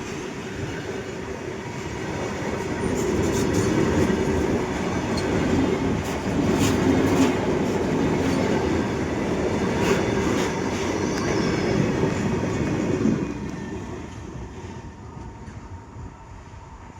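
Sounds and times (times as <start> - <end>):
train wagons rolling past: 0.0 - 16.9.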